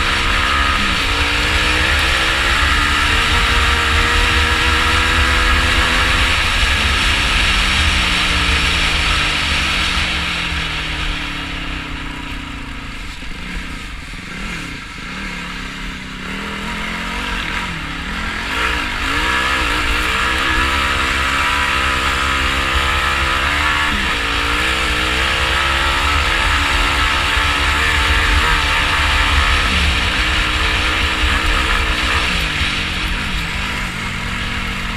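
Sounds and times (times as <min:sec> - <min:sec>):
quad bike engine revving: 0:00.0 - 0:34.9.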